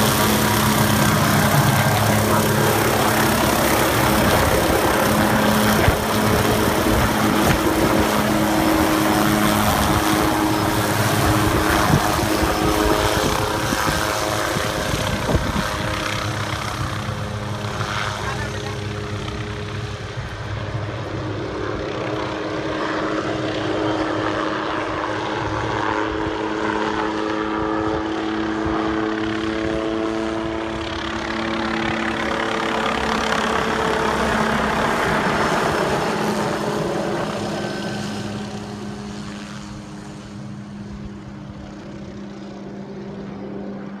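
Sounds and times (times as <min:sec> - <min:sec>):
helicopter flying past: 0:00.0 - 0:44.0.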